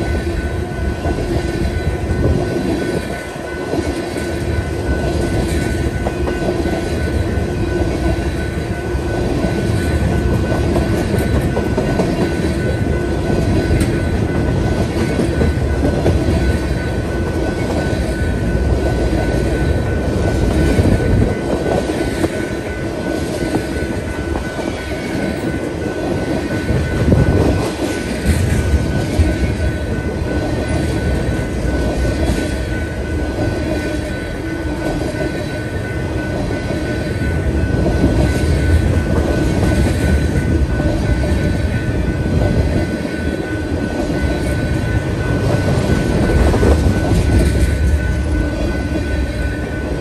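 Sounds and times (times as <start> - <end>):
steel wheels rumbling on rail: 0.0 - 50.0.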